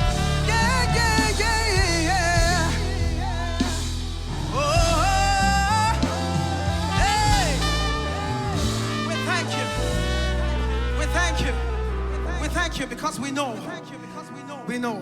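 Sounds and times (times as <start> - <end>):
band with bass and drums: 0.0 - 13.3
person singing: 0.0 - 15.0.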